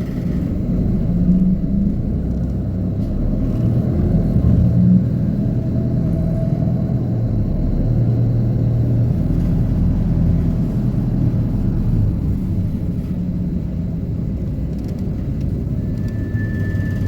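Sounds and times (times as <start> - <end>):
diesel bus engine drone: 0.0 - 17.0
road rumble: 0.0 - 17.0.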